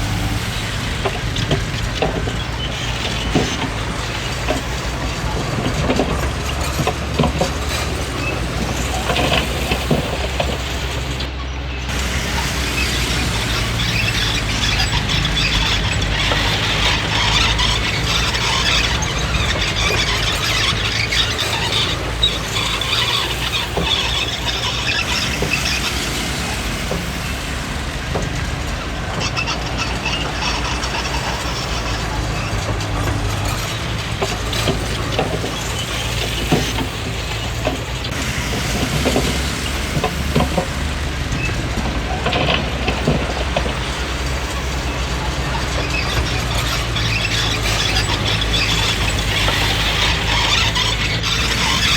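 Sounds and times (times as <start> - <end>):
bulldozer diesel engine running: 0.0 - 51.9
steel tracks squealing: 0.0 - 51.9
metal clanks and knocks: 0.1 - 11.3, 11.9 - 51.9.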